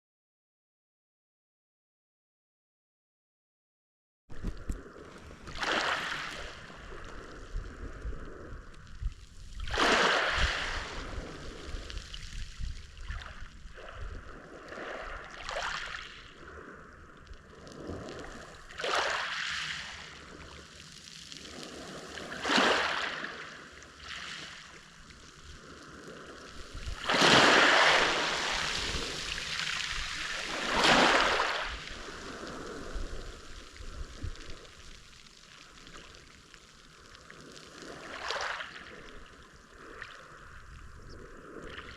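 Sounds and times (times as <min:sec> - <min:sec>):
small waves washing onto shore: 0:04.3 - 0:41.9.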